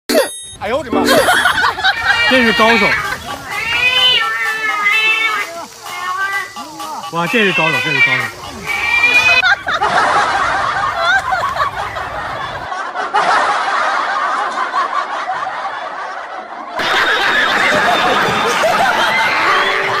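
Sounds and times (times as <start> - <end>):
people snickering and chuckling: 0.9 - 5.9, 6.5 - 7.1, 8.3 - 20.0.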